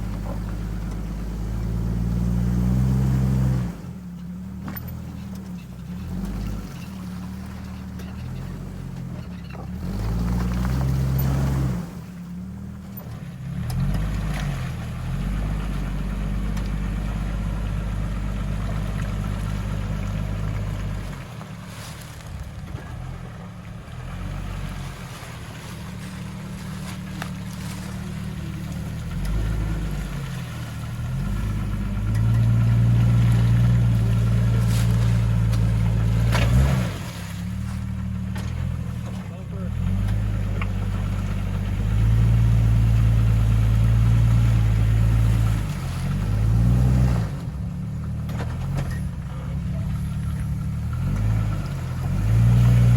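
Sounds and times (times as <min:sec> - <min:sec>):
engine revving: 0:00.0 - 0:04.0, 0:04.6 - 0:21.4, 0:23.9 - 0:52.9.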